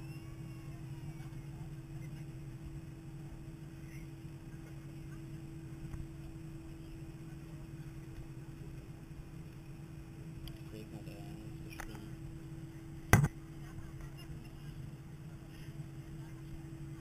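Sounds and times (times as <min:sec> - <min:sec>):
airliner cabin hum: 0:00.0 - 0:17.0.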